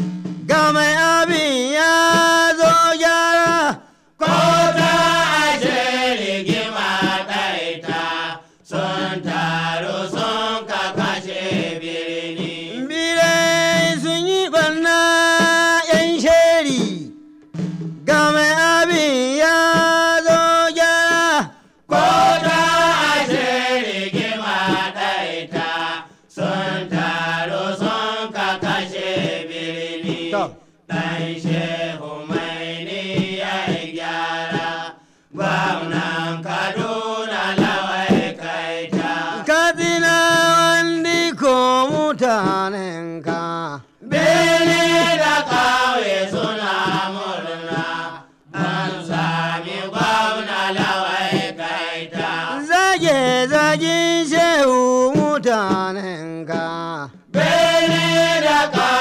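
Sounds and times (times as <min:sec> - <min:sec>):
person singing ornamented phrases: 0:00.5 - 0:07.2, 0:07.8 - 0:17.2, 0:18.1 - 0:47.8, 0:51.7 - 0:59.0.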